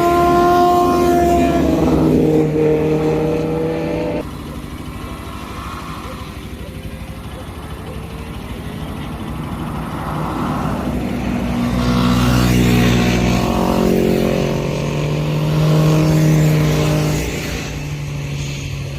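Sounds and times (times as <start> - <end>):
motorcycle engine running loudly: 0.0 - 18.9.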